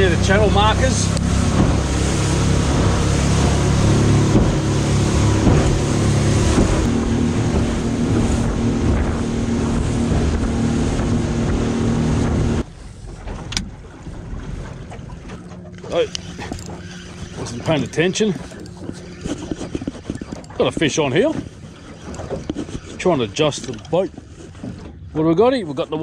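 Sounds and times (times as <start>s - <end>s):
boat motor running: 0.0s - 26.0s
rushing water: 0.0s - 26.0s
wind: 0.0s - 26.0s.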